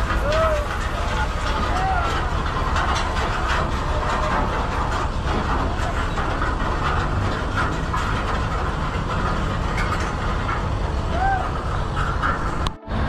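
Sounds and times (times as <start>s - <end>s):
heavy diesel engine running: 0.0s - 13.0s
metallic clanking and rattling: 0.0s - 13.0s.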